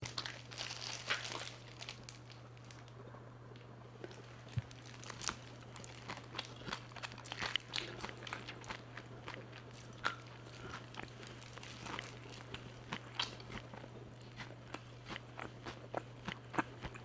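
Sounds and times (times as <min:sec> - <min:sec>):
crispy fried chicken crunching: 0:00.0 - 0:17.0
faint hum: 0:00.0 - 0:17.0.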